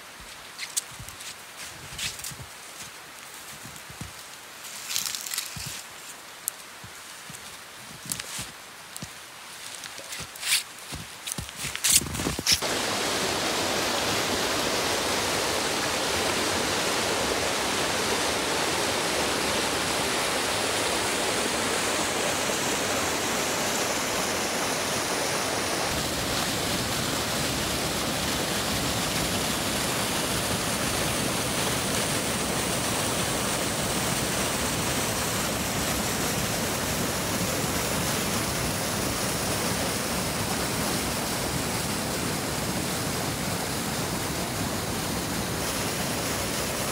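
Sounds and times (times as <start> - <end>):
water rushing over rocks: 3.9 - 46.9.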